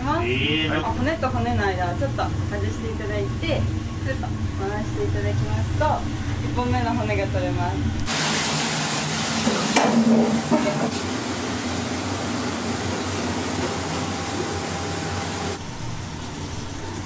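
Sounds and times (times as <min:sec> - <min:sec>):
restaurant room noise hum: 0:00.0 - 0:17.0.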